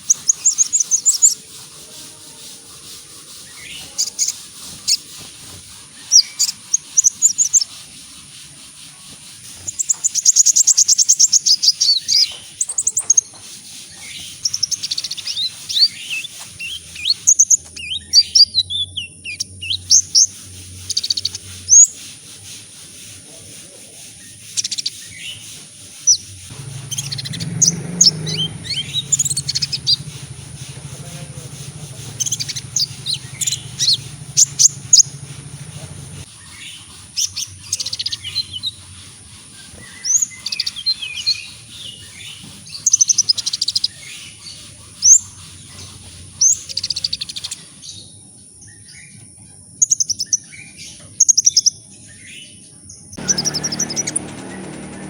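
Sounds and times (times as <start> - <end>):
sunbird chirping and trilling: 0.0 - 55.0.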